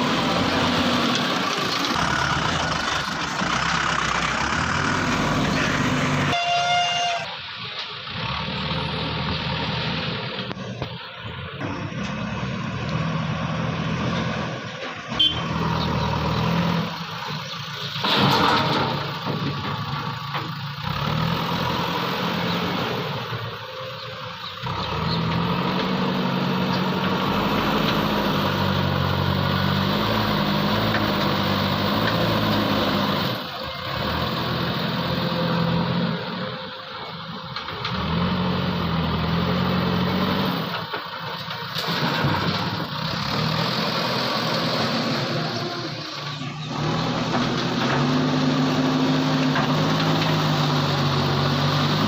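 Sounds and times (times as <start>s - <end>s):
backhoe diesel engine: 0.0s - 52.0s.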